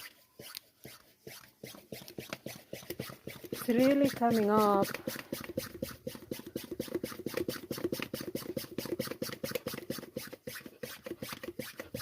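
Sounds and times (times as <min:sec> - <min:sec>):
foot pump puffing air: 0:00.0 - 0:12.0.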